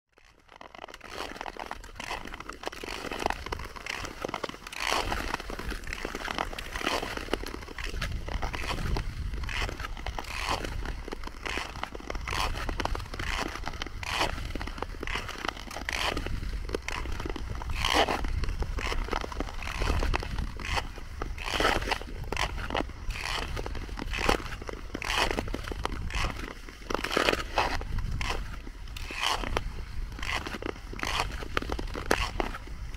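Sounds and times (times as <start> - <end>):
skate blades scraping ice: 0.2 - 32.9.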